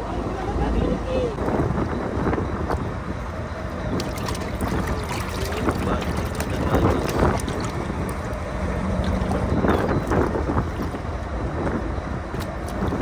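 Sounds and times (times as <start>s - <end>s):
boat engine low rumble: 0.0s - 13.0s
wind buffeting microphone: 0.0s - 13.0s.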